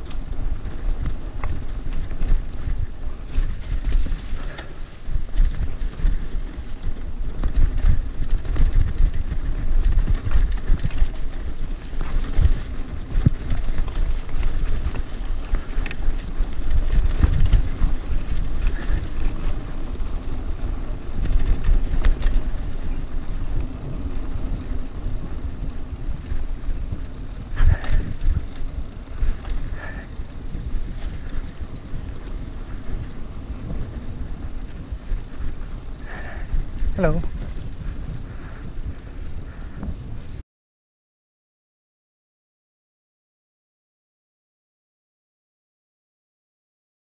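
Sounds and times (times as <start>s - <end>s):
tyres rumbling on dirt: 0.0s - 40.1s
bike knocking and rattling: 0.0s - 40.4s
wind buffeting microphone: 0.0s - 40.4s.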